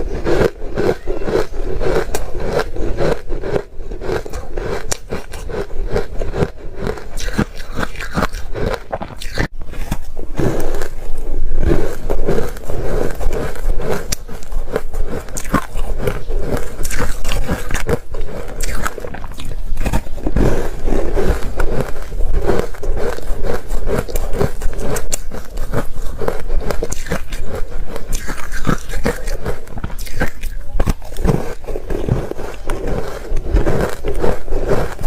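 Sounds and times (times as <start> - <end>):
chewing ice crunches: 0.0 - 35.0.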